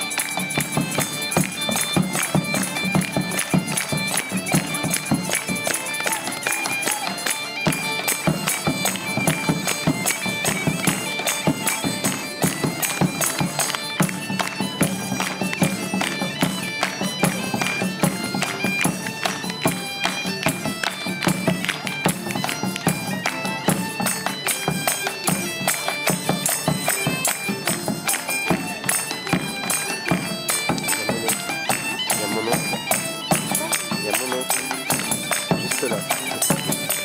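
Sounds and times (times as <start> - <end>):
bagpipes playing melody: 0.0 - 37.0.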